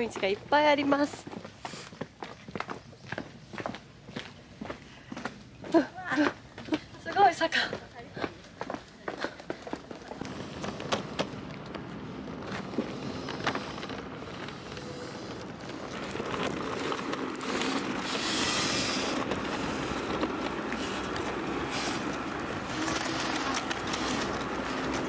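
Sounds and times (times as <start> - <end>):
suitcase wheels rolling on concrete: 0.0 - 25.0.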